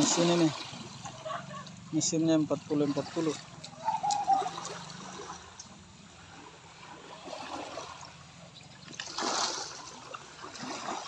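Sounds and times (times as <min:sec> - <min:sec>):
water splash: 0:00.0 - 0:11.0
water trickling and lapping: 0:00.0 - 0:11.0.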